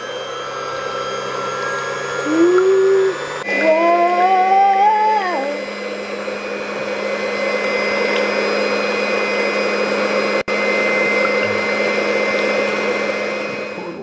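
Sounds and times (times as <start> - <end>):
electric whisk whirring: 0.0 - 14.0.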